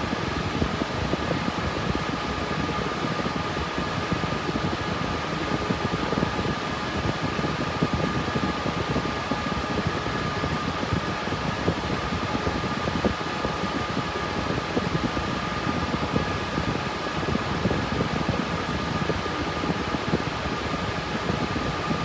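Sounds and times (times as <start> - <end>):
cooling fans rushing: 0.0 - 22.0
faint steady whine: 0.0 - 22.0.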